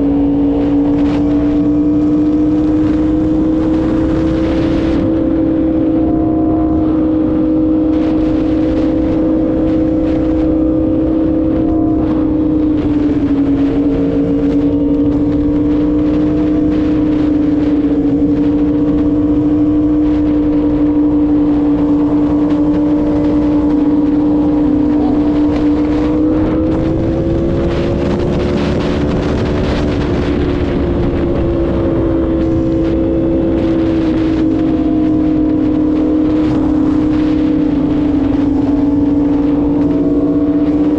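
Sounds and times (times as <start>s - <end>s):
motorcycle engine cruising: 0.0s - 40.9s
wind rushing over microphone: 0.0s - 40.9s.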